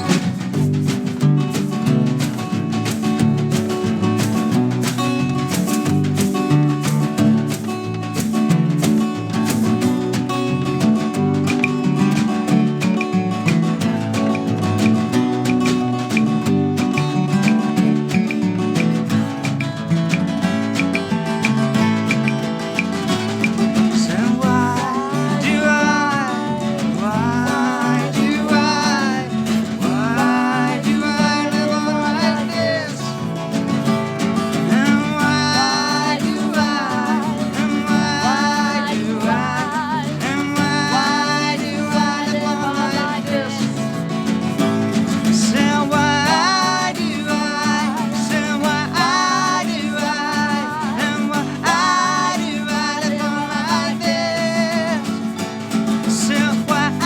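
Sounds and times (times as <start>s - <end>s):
sliding guitar lead melody: 0.0s - 57.0s.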